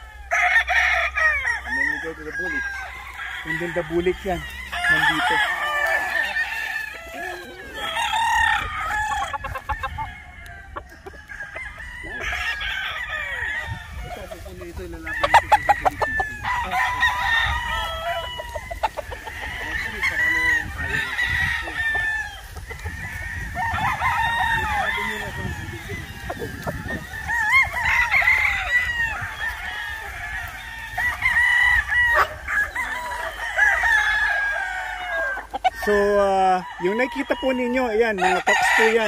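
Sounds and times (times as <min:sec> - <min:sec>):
chickens clucking: 0:00.0 - 0:39.0
roosters crowing: 0:00.0 - 0:39.0.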